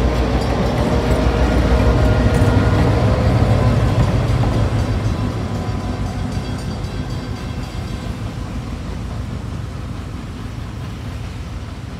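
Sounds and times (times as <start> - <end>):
steam train rumbling: 0.0 - 11.9.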